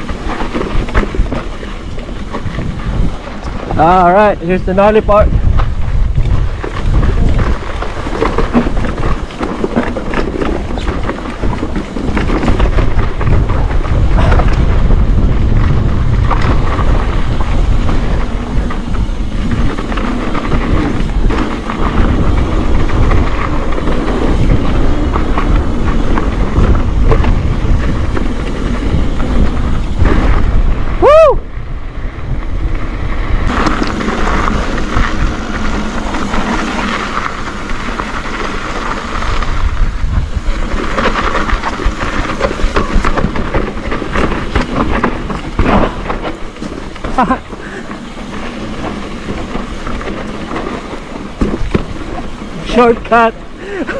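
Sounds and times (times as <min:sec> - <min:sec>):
tyres crunching on dirt: 0:00.0 - 0:31.1, 0:31.7 - 0:53.9
bike rattling over bumps: 0:00.0 - 0:53.9
wind buffeting microphone: 0:00.0 - 0:53.9.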